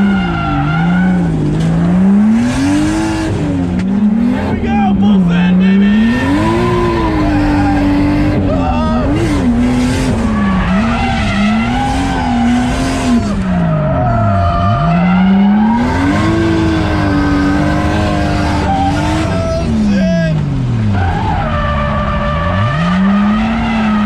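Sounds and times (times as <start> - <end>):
car engine revving hard: 0.0 - 13.8, 14.6 - 24.0
tyres skidding: 0.0 - 24.0.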